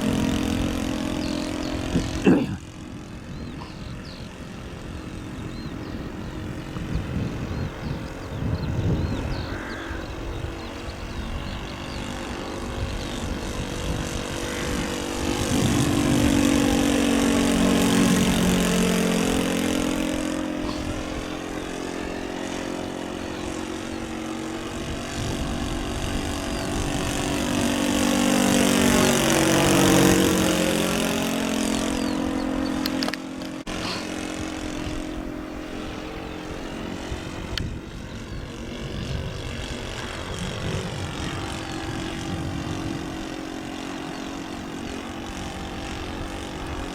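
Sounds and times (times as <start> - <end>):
model airplane engine passing: 0.0 - 46.9.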